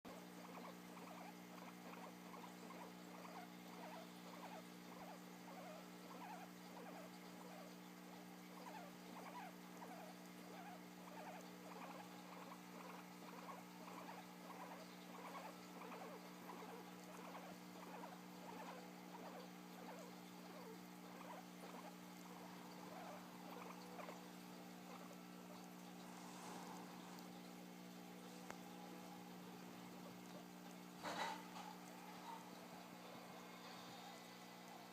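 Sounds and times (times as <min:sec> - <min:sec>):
guinea pig squeaking: 0:00.1 - 0:07.8, 0:08.5 - 0:26.7, 0:28.6 - 0:34.9.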